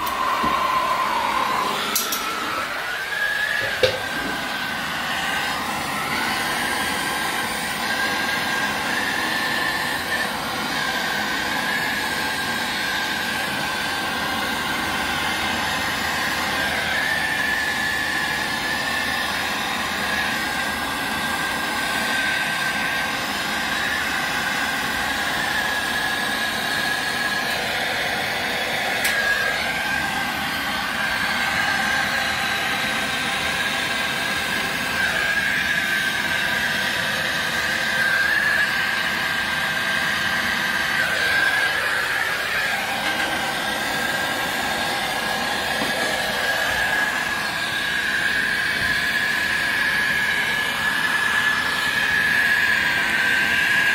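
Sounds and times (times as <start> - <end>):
gas torch hissing and whistling: 0.0 - 53.9.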